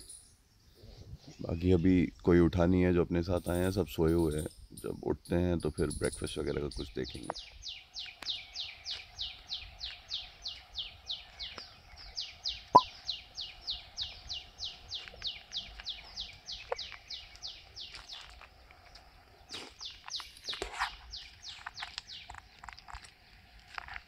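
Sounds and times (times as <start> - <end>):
bird chirping: 3.4 - 23.5.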